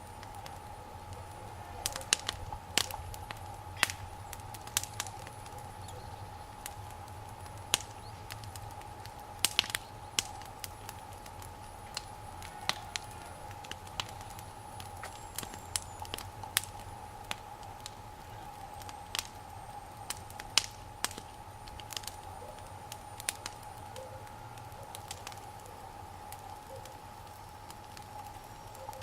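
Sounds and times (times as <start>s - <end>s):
sharp fire pops: 0.0s - 25.7s
wood fire crackling: 0.0s - 29.0s.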